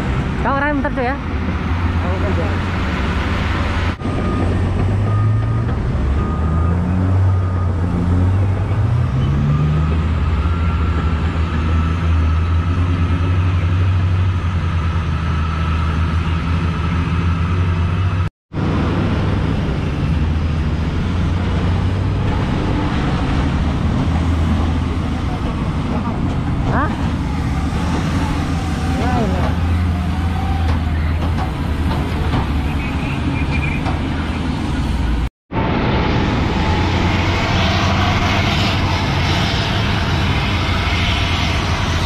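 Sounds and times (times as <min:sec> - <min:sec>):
diesel truck engine running: 0:00.0 - 0:37.5.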